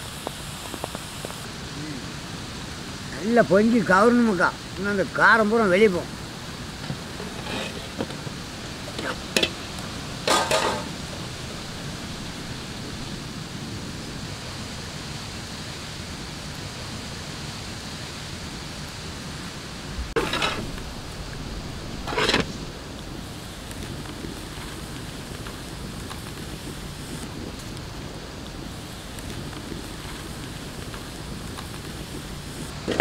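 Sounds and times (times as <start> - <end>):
pot boiling with hiss: 0.0 - 33.0.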